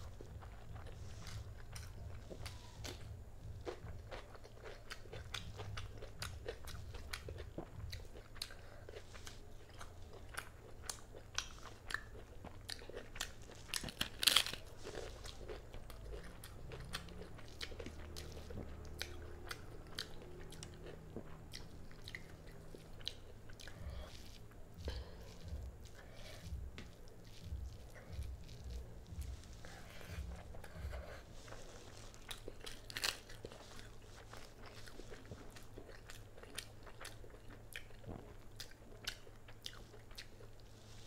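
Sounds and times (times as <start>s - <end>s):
wet chewing and mouth clicks: 0.0s - 41.0s.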